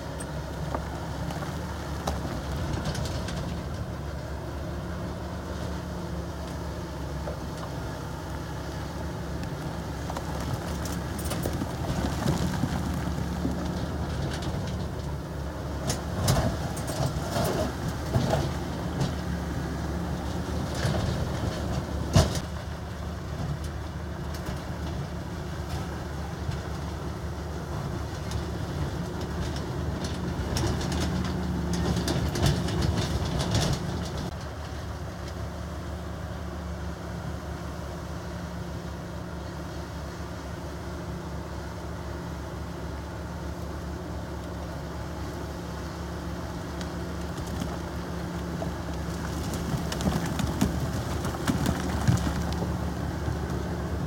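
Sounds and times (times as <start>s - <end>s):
heavy diesel machinery engine: 0.0s - 54.0s.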